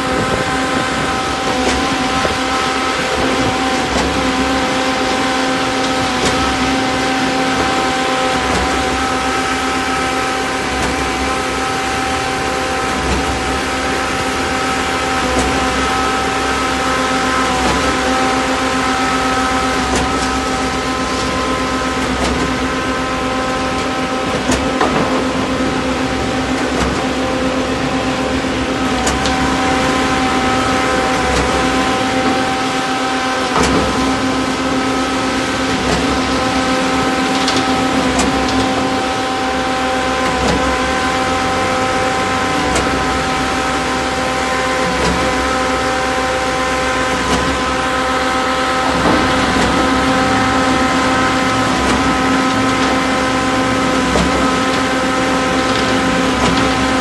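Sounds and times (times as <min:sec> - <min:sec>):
diesel engine running: 0:00.0 - 0:57.0
machine knocks and clanks: 0:00.0 - 0:57.0.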